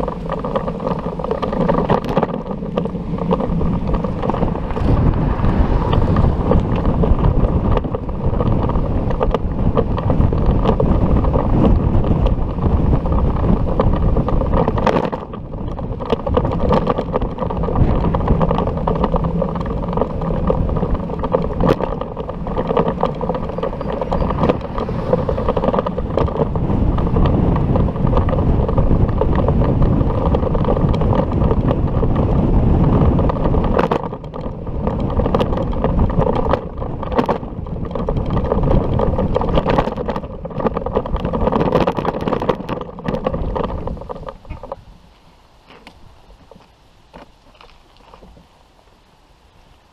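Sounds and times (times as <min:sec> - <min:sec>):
vehicle and road noise: 0:00.0 - 0:49.9
wind buffeting microphone: 0:00.0 - 0:49.9.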